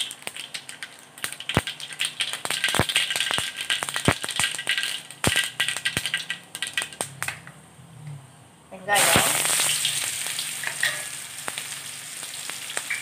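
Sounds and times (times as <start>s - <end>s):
oil crackling: 0.0s - 7.5s, 8.9s - 13.0s
mustard seeds popping in hot oil: 0.0s - 7.6s, 8.9s - 13.0s.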